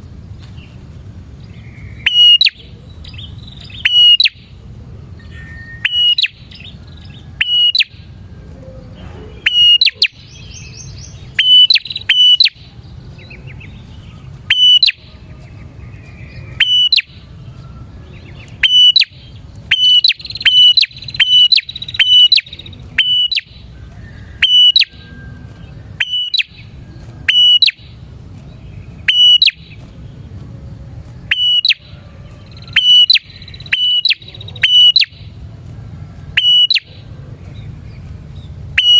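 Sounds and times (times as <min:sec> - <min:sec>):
birds buzzy trills: 0:00.0 - 0:38.9
birds calling sharp notes: 0:00.0 - 0:38.9.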